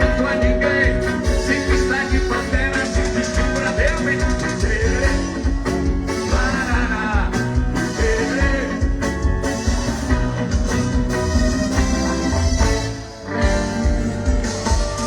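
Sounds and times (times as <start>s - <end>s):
live band over sound system: 0.0s - 15.0s.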